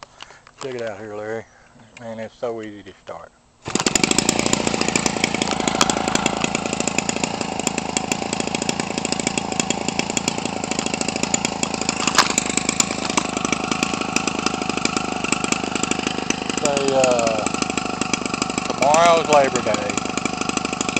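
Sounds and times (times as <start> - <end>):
two-stroke engine running: 3.7 - 20.9.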